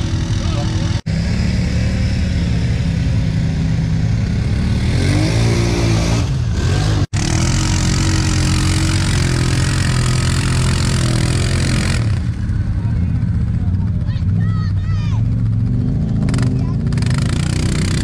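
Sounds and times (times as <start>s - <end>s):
tyres churning through mud: 0.0s - 13.1s, 15.2s - 18.0s
atv engines revving: 0.0s - 18.0s
engine running steadily: 0.0s - 18.0s.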